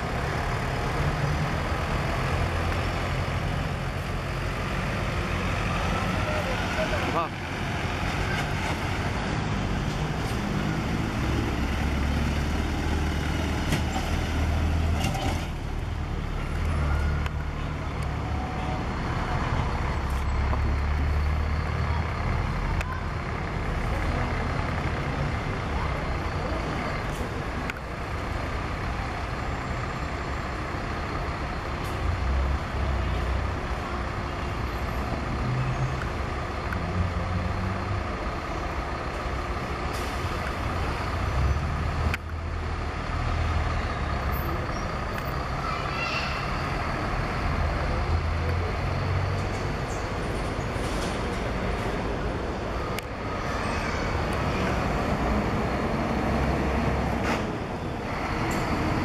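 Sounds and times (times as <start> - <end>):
diesel bus engine rumbling: 0.0 - 59.0.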